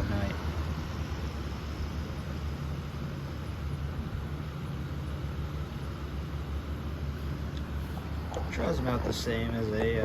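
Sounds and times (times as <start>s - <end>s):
fan motor hum: 0.0s - 10.0s.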